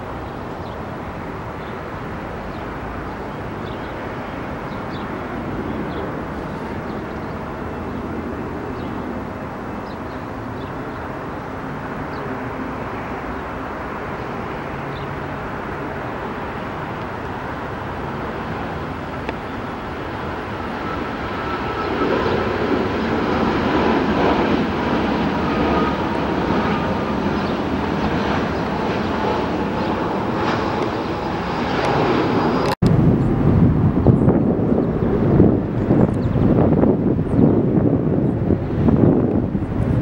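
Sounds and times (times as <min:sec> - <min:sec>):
jet engine rumble: 0:00.0 - 0:40.0.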